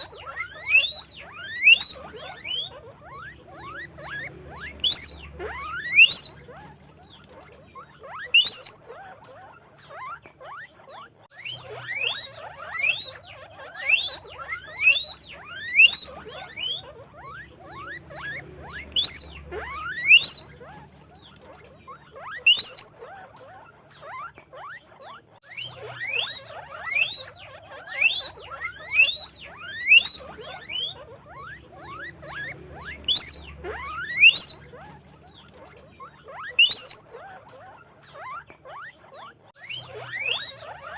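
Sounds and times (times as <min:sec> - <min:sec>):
fainter guinea pig squeaks: 0:00.0 - 0:40.9
guinea pigs wheeking: 0:00.0 - 0:40.9.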